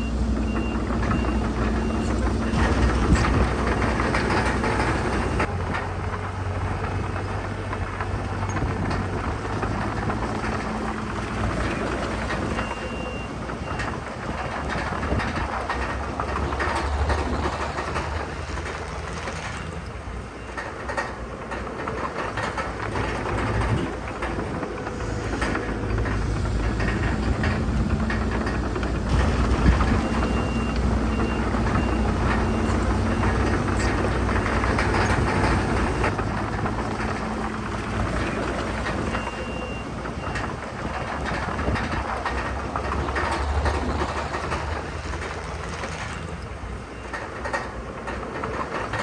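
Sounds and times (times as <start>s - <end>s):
low diesel engine rumble: 0.0s - 49.0s
metallic clanking and rattling: 0.1s - 49.0s.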